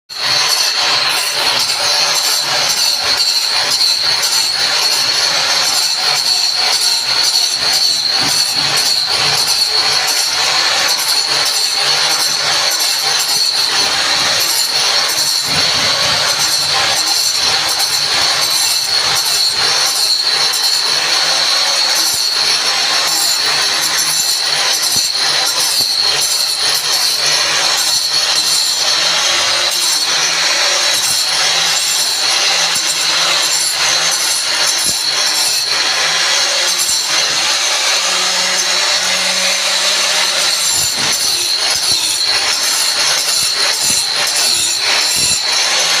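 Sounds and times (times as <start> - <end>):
grinder whining and grating: 0.1 - 46.0.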